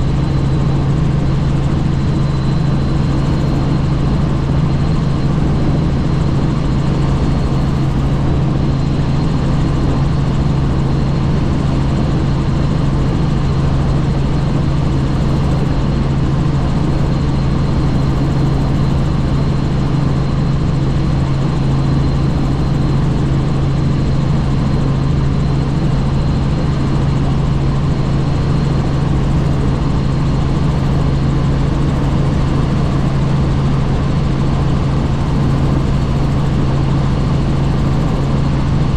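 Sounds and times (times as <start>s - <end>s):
helicopter low drone: 0.0s - 38.9s.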